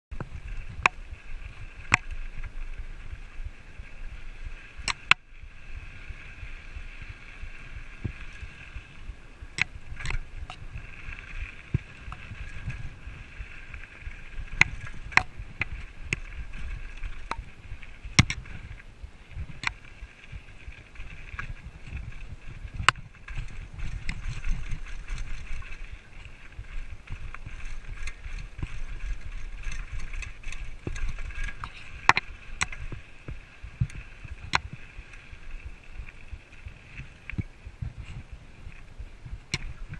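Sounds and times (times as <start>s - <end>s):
bike frame rattling over stones: 0.1s - 39.9s
bike tyre noise on dirt: 0.1s - 39.9s
wind rumble: 0.1s - 39.9s.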